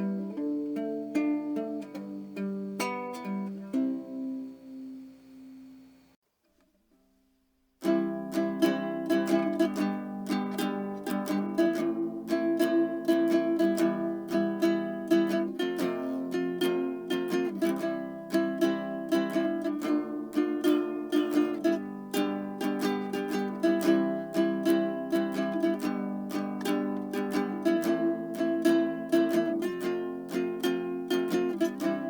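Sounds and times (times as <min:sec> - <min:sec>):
plucked string tune: 0:00.0 - 0:05.1, 0:07.8 - 0:32.0.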